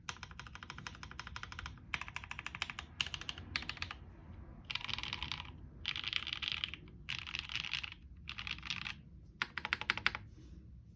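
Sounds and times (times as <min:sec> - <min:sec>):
keyboard typing: 0:00.0 - 0:04.0, 0:04.7 - 0:10.2.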